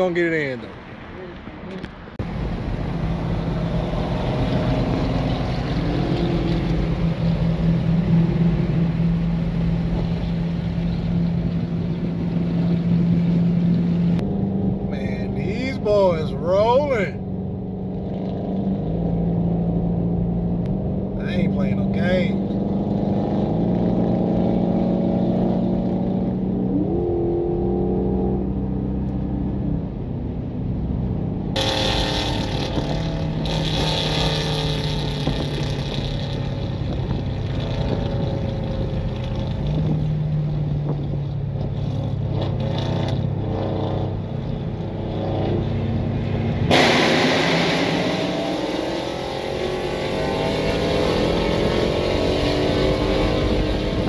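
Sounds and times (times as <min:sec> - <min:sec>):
car engines at highway speed: 0:00.0 - 0:54.0
road and wind noise: 0:00.0 - 0:54.0.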